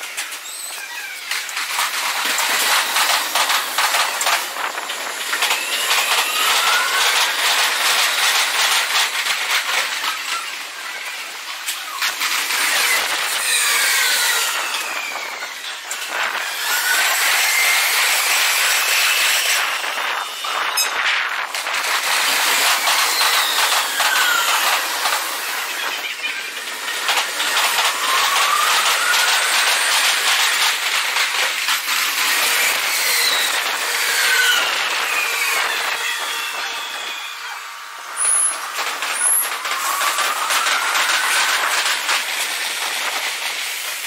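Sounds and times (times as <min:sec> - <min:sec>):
train motor whine: 0:00.0 - 0:10.4, 0:11.0 - 0:44.0
wheels clattering over rail joints: 0:00.0 - 0:44.0.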